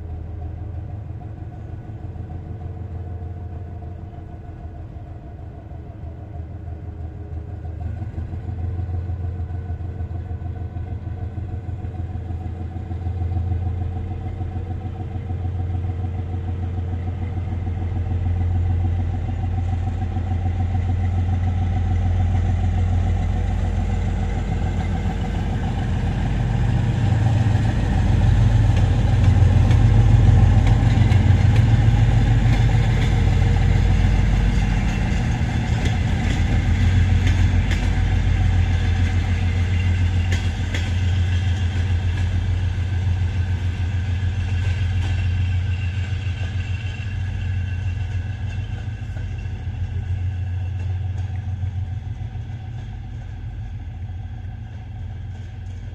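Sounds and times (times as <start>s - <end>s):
diesel locomotive engine droning: 0.0s - 55.9s.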